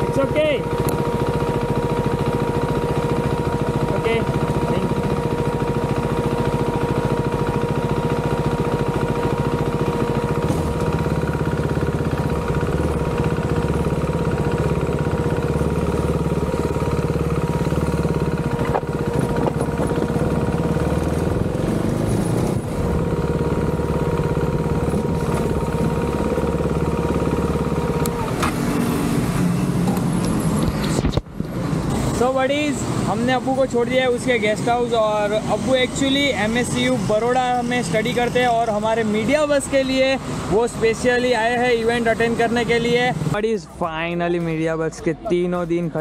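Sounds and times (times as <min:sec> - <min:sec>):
road noise: 0:00.0 - 0:46.0
vehicle engine running: 0:00.0 - 0:46.0.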